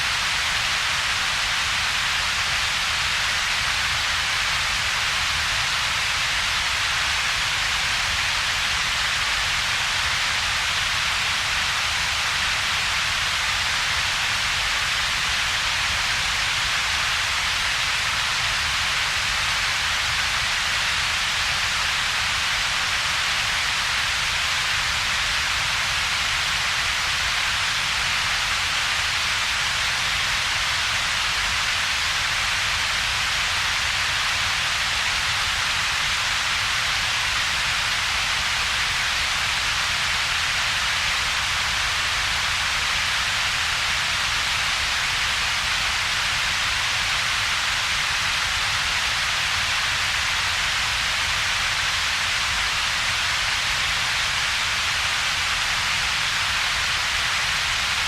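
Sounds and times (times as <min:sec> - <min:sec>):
broad synthetic hiss: 0:00.0 - 0:58.0.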